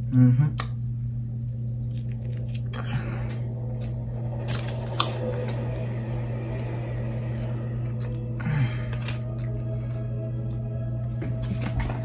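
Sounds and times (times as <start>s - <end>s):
steady low hum: 0.0s - 12.0s
chewing and squishing food: 0.5s - 12.0s.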